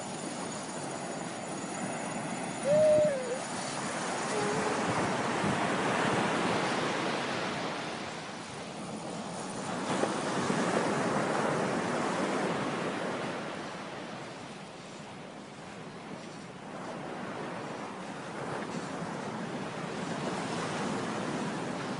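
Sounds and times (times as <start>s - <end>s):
ocean surf washing up beach: 0.0s - 21.9s.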